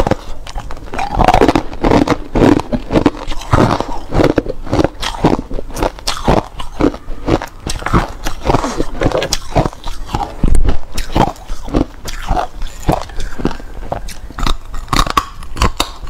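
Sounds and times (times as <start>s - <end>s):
ice crunching and cracking: 0.0s - 16.0s.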